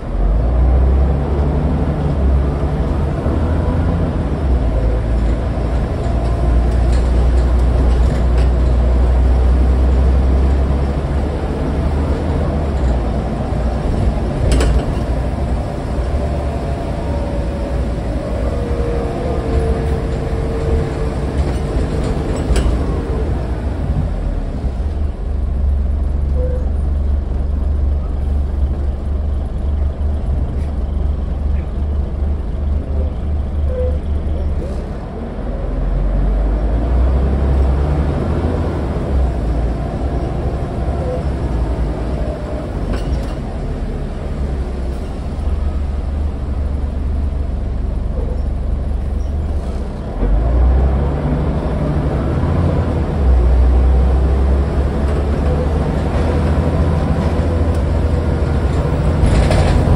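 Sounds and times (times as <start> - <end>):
bus diesel engine rumble: 0.0 - 59.9.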